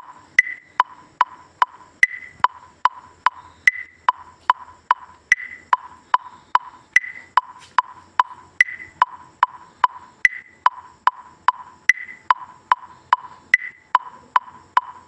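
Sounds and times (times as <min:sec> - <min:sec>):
electronic metronome ticks: 0:00.0 - 0:15.0.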